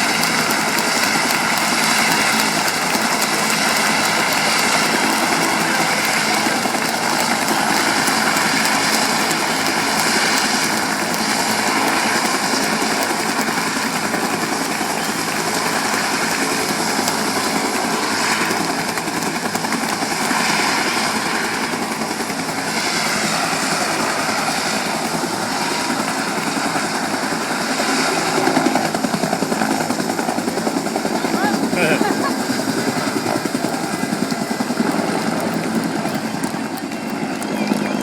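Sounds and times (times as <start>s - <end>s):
helicopter rotor chopping: 0.0s - 38.0s
helicopter turbine noise: 0.0s - 38.0s.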